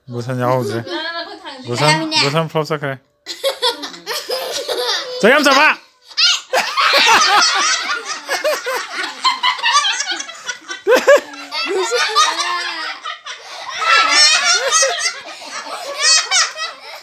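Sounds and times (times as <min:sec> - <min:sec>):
children and woman laughing: 0:03.3 - 0:17.0.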